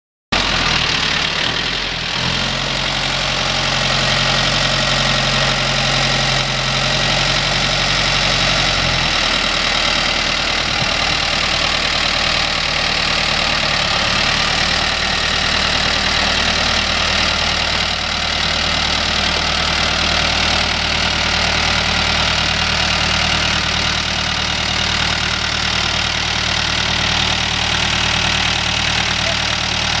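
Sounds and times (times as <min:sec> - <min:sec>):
tractor diesel engine idling: 0:00.4 - 0:30.0.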